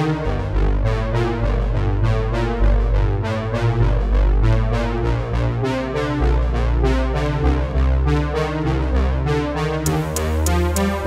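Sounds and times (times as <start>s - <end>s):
synthesizer music with beat: 0.0s - 11.0s.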